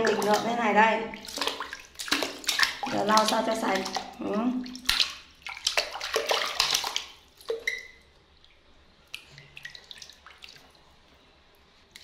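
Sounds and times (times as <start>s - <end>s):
water dripping: 0.0s - 11.0s
water splashing in a basin: 0.0s - 11.0s.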